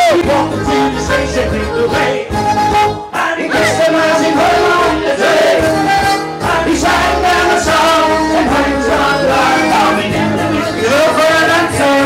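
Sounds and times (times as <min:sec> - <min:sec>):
people singing along: 0:00.0 - 0:02.4, 0:03.1 - 0:12.0
accordion: 0:00.0 - 0:12.0
acoustic guitar: 0:00.0 - 0:12.0.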